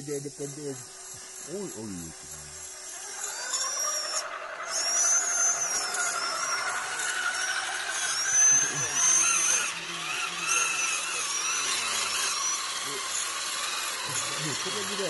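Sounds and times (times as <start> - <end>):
electric motor whining under load: 0.0 - 15.0.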